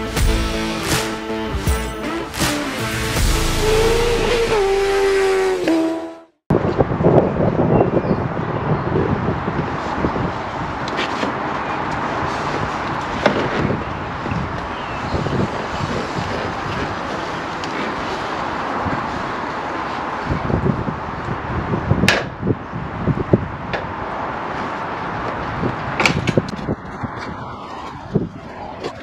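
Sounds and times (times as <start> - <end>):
outdoor background noise: 3.6 - 29.0.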